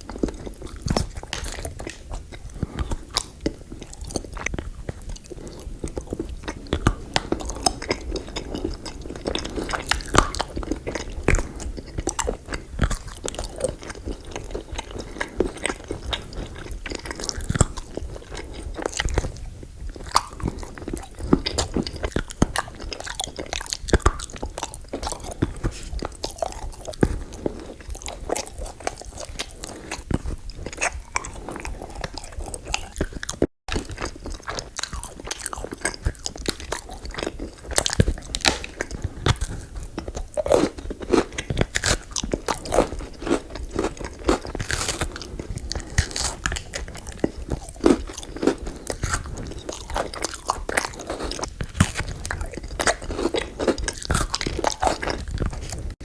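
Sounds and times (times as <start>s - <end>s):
person chewing crunchy dessert: 0.0s - 56.0s.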